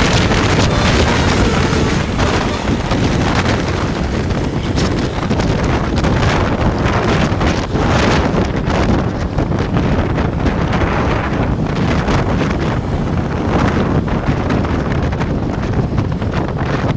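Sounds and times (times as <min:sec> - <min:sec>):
roadside traffic: 0:00.0 - 0:16.9
wind buffeting microphone: 0:00.0 - 0:16.9.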